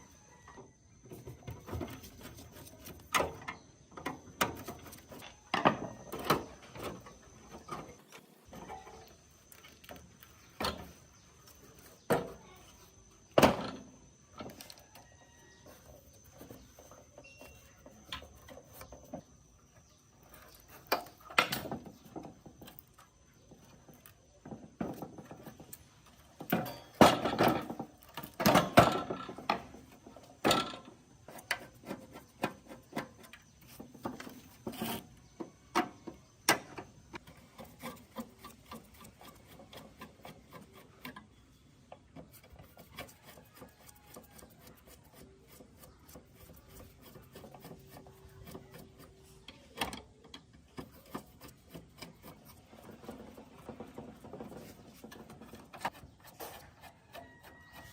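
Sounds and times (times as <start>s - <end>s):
knocks and scrapes on metal: 0.5s - 57.9s.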